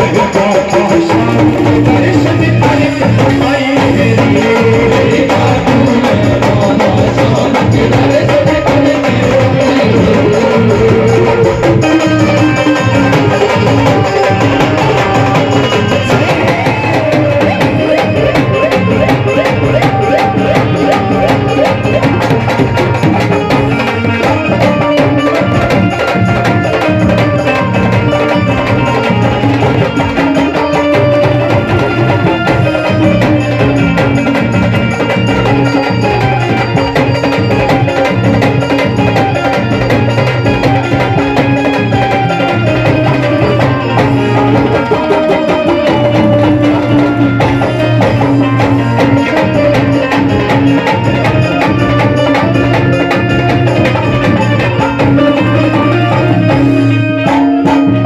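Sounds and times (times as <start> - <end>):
devotional folk band: 0.0 - 58.0
fast hand-drum percussion: 0.0 - 58.0.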